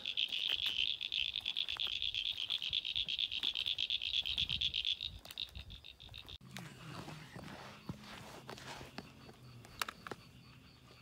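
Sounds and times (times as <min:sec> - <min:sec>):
frogs trilling: 0:00.0 - 0:11.0.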